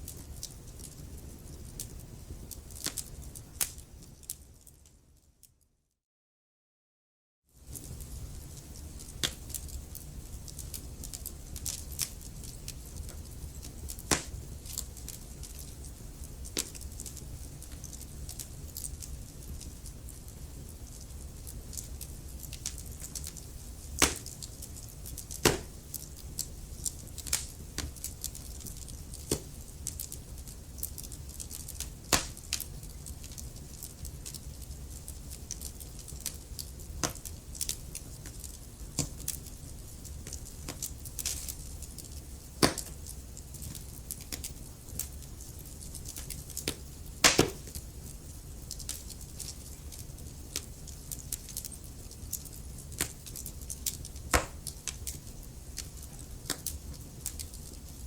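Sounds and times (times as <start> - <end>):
wood fire crackling: 0.0 - 5.6, 7.6 - 58.0.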